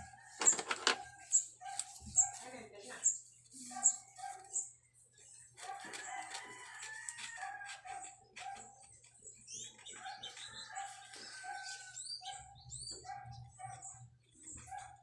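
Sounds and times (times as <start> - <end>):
small birds chirping: 1.2 - 6.2, 7.8 - 15.0.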